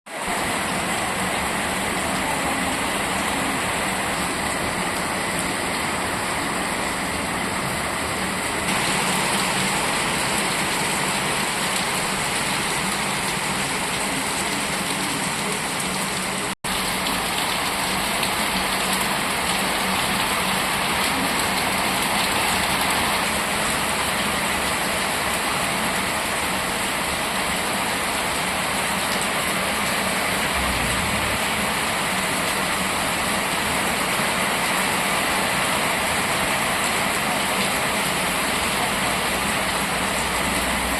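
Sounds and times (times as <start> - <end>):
steady rain falling: 0.1 - 40.9.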